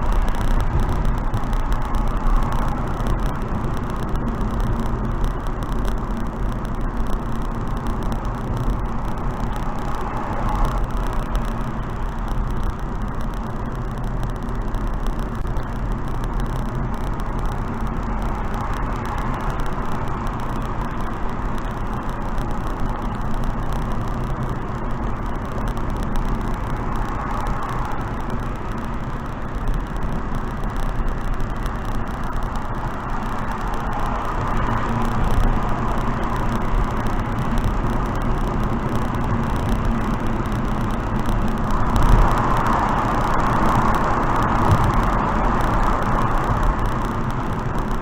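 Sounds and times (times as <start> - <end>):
car wind noise: 0.0 - 48.0
deep low drone: 0.0 - 48.0.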